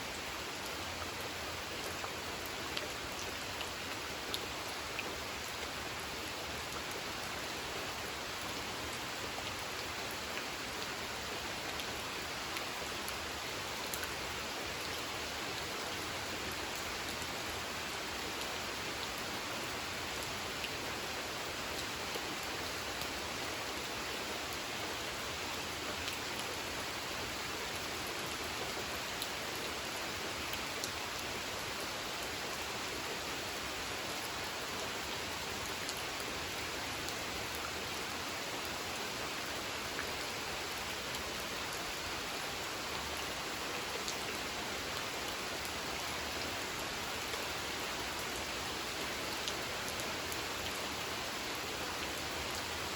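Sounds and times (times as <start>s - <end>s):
gentle rain falling on a pond: 0.0s - 52.9s.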